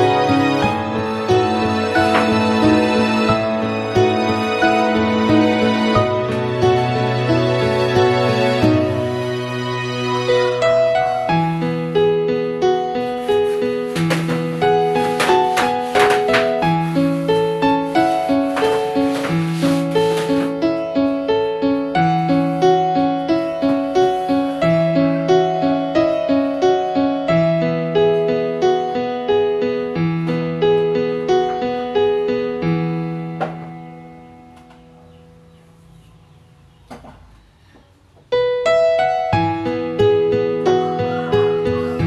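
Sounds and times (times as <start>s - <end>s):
solo piano music: 0.0s - 37.5s, 38.2s - 42.0s.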